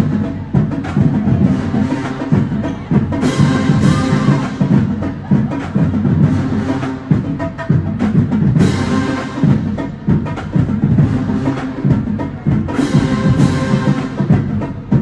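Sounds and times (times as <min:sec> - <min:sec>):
brass: 0:00.0 - 0:15.0
drum hits: 0:00.0 - 0:15.0.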